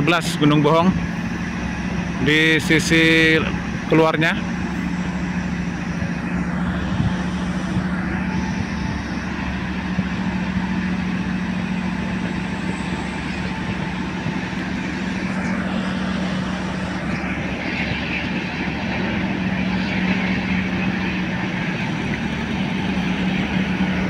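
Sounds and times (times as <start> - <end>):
large engine humming: 0.0 - 24.0.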